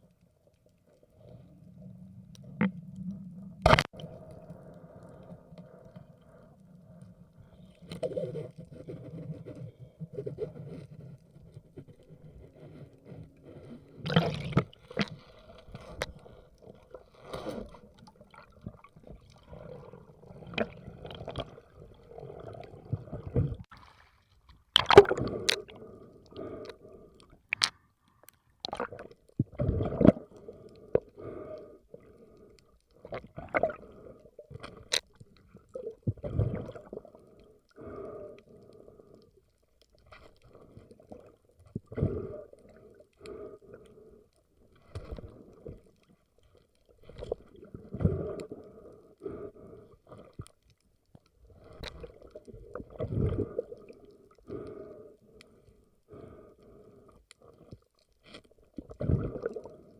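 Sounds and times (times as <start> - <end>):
muffled underwater sounds: 0.0 - 59.9.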